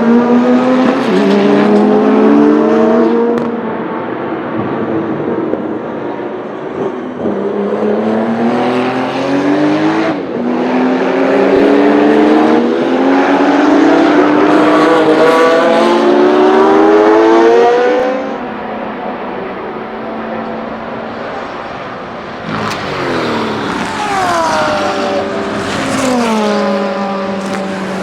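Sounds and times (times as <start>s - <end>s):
car engine accelerating through gears: 0.0s - 5.6s, 6.7s - 28.0s.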